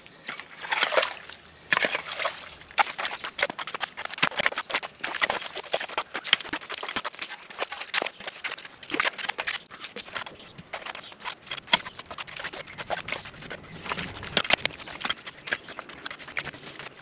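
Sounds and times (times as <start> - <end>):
pickaxe and shovel digging wet ground: 0.1 - 17.0.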